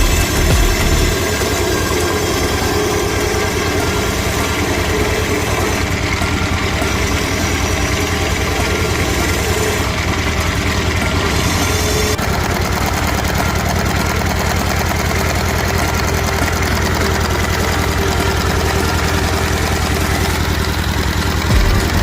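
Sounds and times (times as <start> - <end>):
power tool motor running: 0.0 - 22.0.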